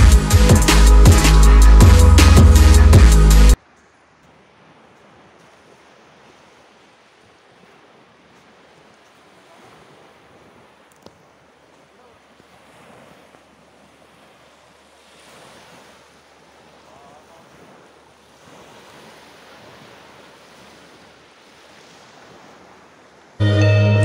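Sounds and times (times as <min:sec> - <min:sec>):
small waves washing onto beach: 0:03.6 - 0:23.4.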